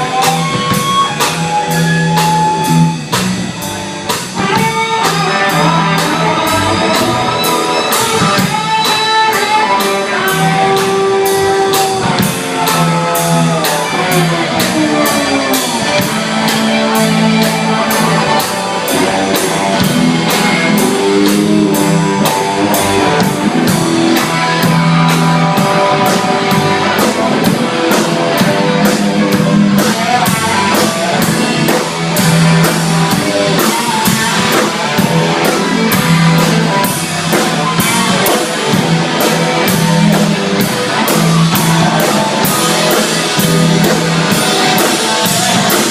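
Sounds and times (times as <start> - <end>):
blues guitar lead bending notes: 0.0 - 45.9
repeating bass line: 0.0 - 45.9
steady drum beat: 0.0 - 45.9.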